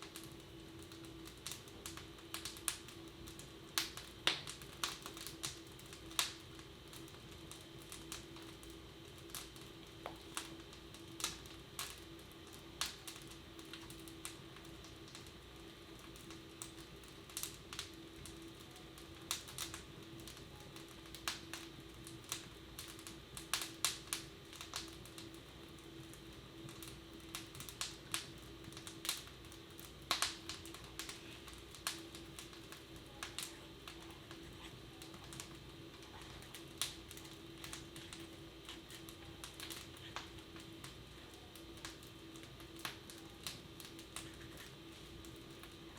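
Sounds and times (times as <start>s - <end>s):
steady low hum: 0.0s - 45.9s
wood fire crackling: 0.0s - 45.9s.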